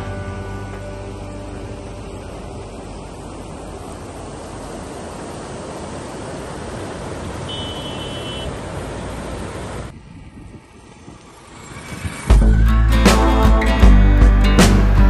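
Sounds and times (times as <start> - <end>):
car road and wind noise: 0.0 - 13.1.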